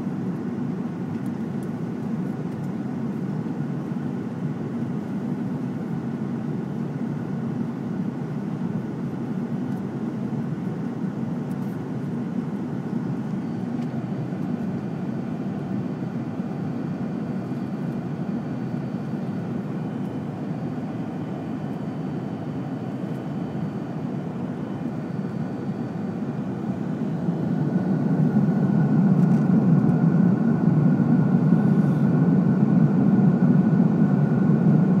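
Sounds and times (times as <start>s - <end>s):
airliner cabin roar: 0.0s - 35.0s.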